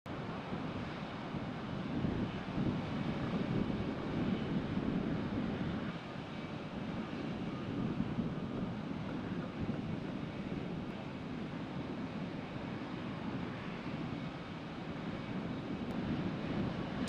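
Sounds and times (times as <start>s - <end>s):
jet engine rumble: 0.1s - 17.0s.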